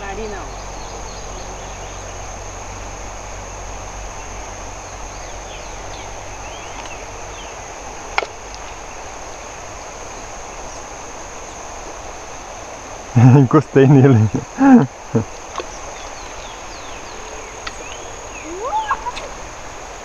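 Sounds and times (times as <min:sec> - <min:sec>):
faint chirps: 0:00.0 - 0:19.6
background hiss: 0:00.0 - 0:20.0
high-pitched insect drone: 0:00.0 - 0:20.0.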